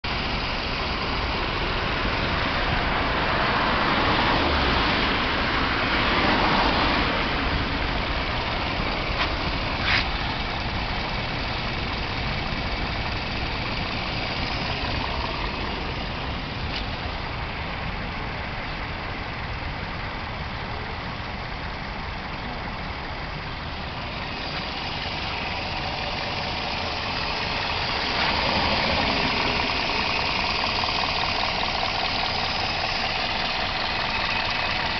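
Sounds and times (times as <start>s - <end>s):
car engine idling and revving: 0.0s - 34.9s
engine knocking: 0.1s - 34.9s.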